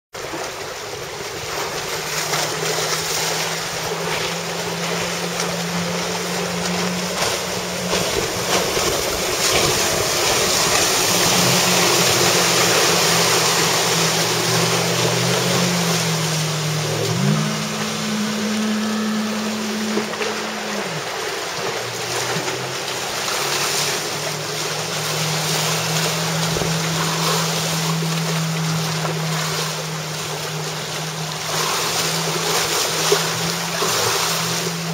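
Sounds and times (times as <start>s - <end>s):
outboard engine drone: 0.1s - 34.9s
rush of wind and waves: 0.2s - 34.9s.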